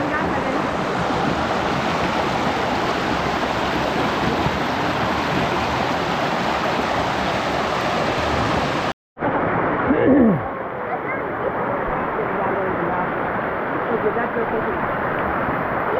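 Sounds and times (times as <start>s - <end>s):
water rushing over rocks: 0.0s - 15.9s.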